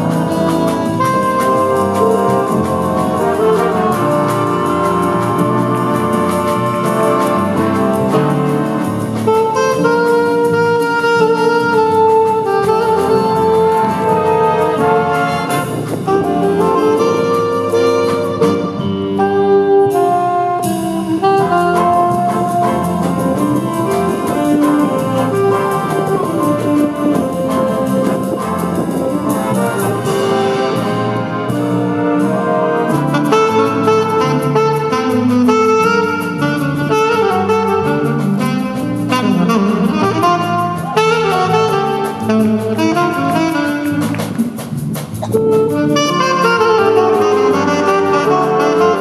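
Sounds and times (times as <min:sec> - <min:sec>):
jazz big band playing: 0:00.0 - 0:49.0
saxophone solo: 0:00.0 - 0:49.0.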